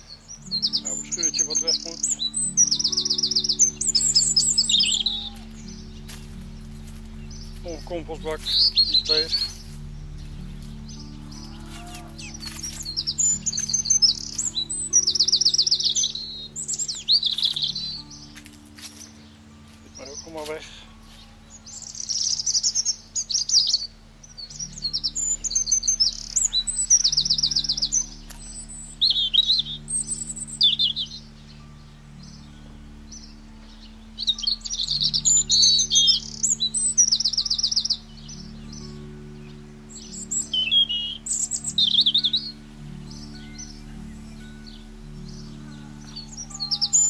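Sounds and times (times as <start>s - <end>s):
songbird chirping and trilling: 0.0s - 47.0s.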